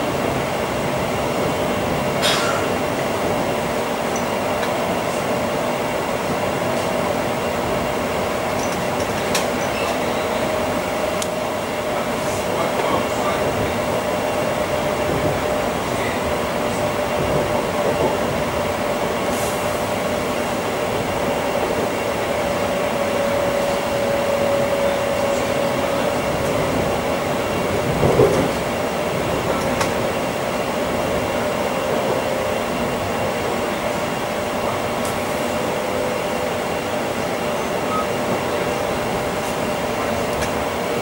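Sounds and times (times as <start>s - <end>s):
train interior rumble and hiss: 0.0s - 41.0s.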